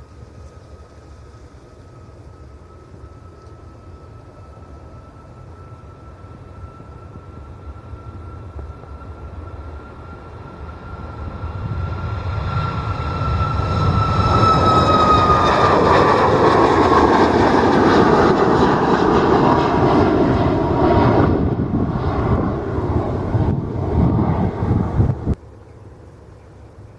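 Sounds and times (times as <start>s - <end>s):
jet airliner passing: 0.0s - 26.8s
high engine whine: 0.0s - 26.9s.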